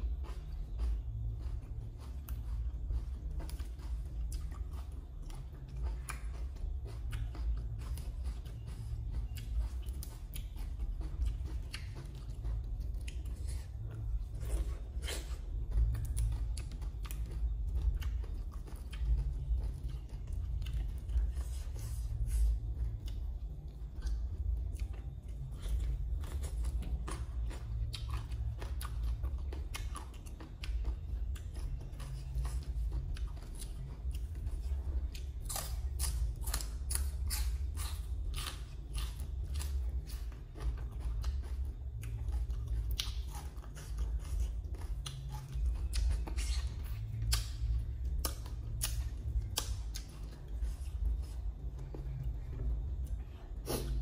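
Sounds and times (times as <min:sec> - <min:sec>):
chewing and crunching salad: 0:00.0 - 0:54.0
steady low rumble: 0:00.0 - 0:54.0.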